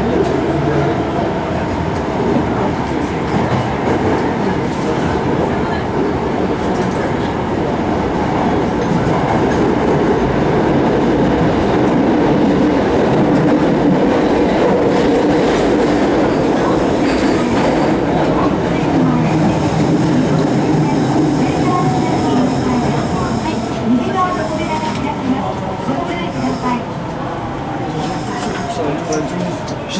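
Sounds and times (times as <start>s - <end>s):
train running through tunnel: 0.0s - 29.9s.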